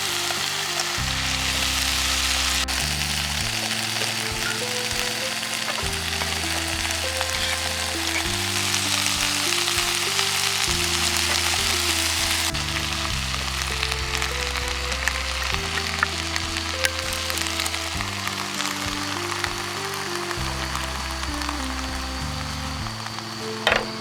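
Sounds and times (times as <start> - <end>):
food sizzling in a pan: 0.0 - 24.0
slow low background music: 0.0 - 24.0.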